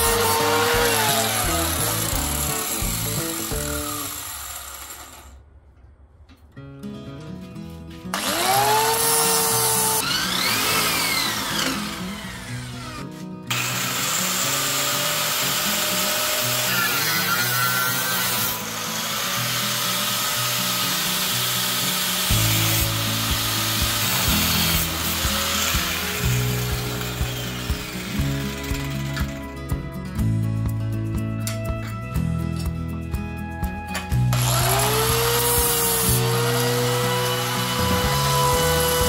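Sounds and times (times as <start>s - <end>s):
angle grinder grinding metal: 0.0s - 5.4s, 8.1s - 29.7s, 34.3s - 39.0s.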